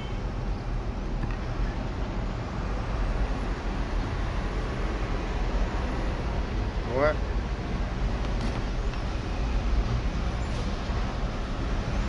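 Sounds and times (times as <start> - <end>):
road traffic rumble and hiss: 0.0 - 12.0.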